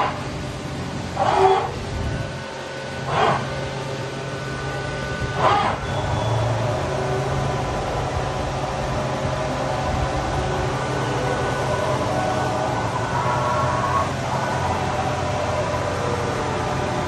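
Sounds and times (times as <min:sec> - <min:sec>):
faint whine tones: 0:00.0 - 0:17.0
machine humming: 0:00.0 - 0:17.0.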